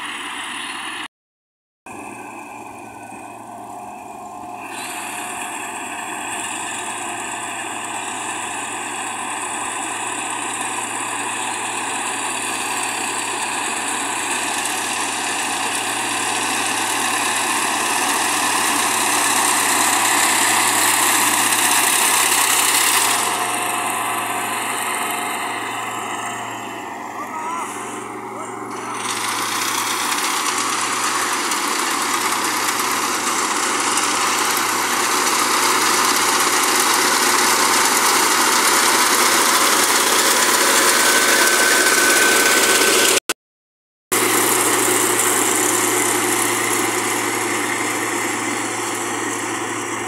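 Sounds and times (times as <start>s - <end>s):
combine harvester running: 0.0s - 1.1s, 1.9s - 43.4s, 44.1s - 50.0s.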